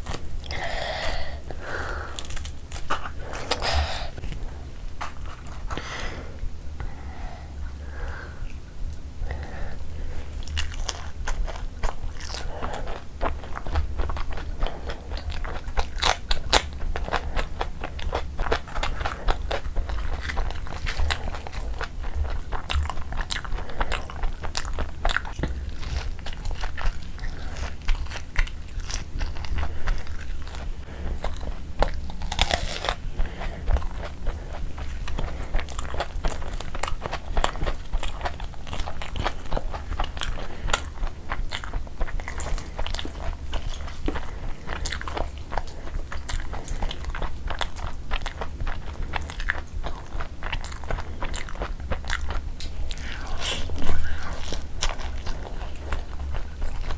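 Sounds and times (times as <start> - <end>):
close chewing and biting: 0.0 - 6.4, 9.3 - 56.9
steady low hum: 0.0 - 56.9.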